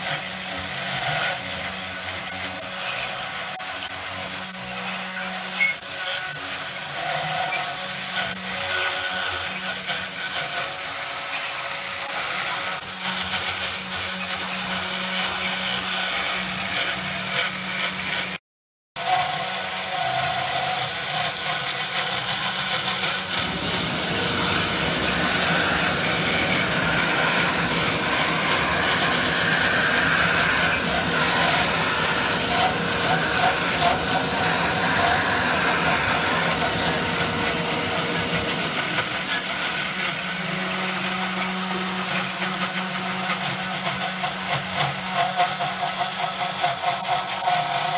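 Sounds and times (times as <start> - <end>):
router spindle humming: 0.0 - 18.4, 19.0 - 47.9.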